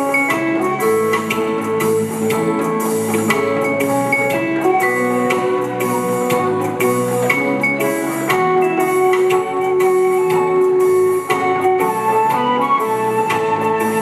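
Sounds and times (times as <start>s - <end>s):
live band dance music: 0.0s - 14.0s
steady drumbeat: 0.0s - 14.0s.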